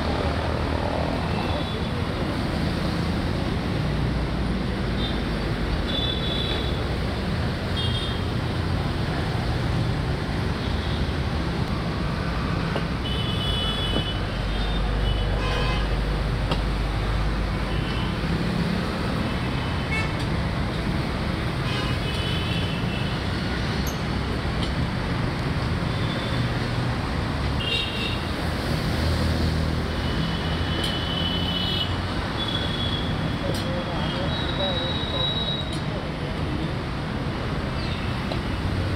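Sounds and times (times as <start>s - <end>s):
city street traffic: 0.0s - 38.9s.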